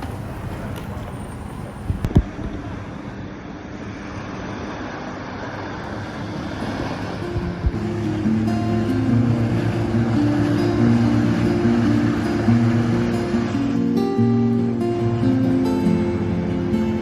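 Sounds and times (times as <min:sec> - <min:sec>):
motor noise: 0:00.0 - 0:17.0
wind rushing over microphone: 0:00.0 - 0:17.0.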